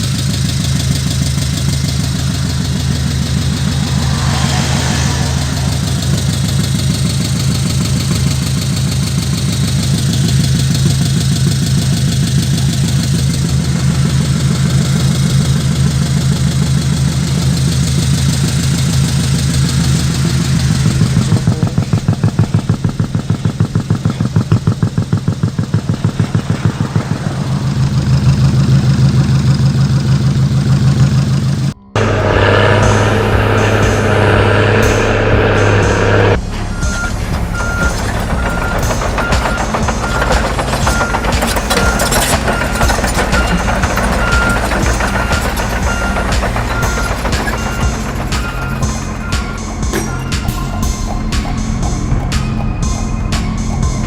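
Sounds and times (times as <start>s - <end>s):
toy truck engine idling: 0.0s - 54.0s.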